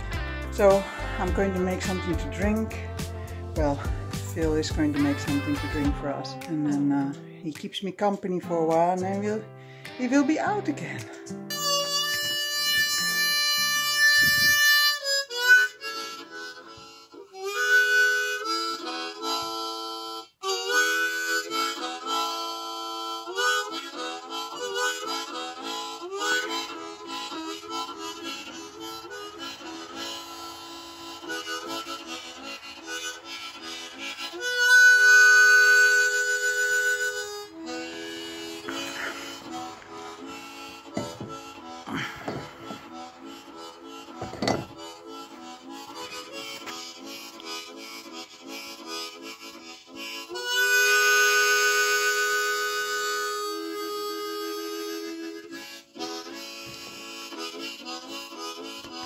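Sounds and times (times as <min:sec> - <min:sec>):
harmonica melody: 0:00.0 - 0:59.0.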